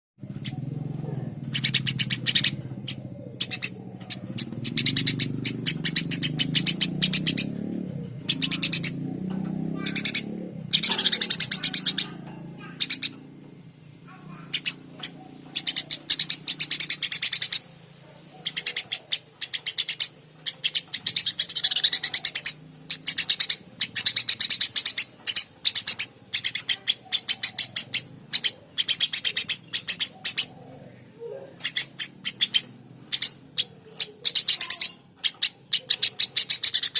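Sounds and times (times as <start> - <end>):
sparrow chirping: 0.2 - 36.9.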